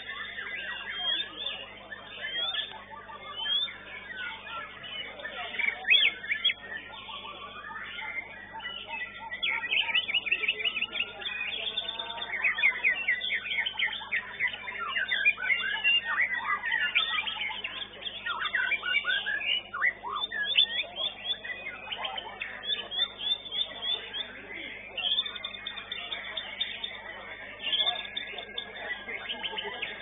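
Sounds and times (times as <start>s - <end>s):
bird singing whistles and chirps: 0.0s - 30.0s.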